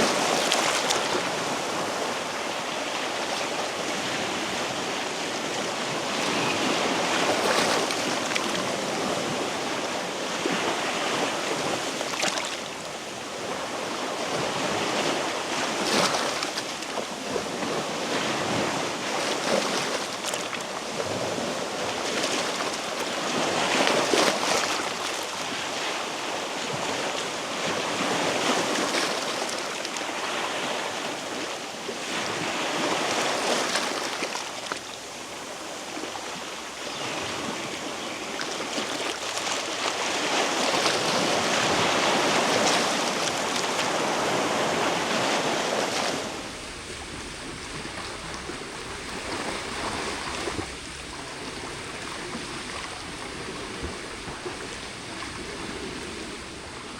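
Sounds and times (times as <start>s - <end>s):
waves washing onto rocky shore: 0.0s - 56.9s.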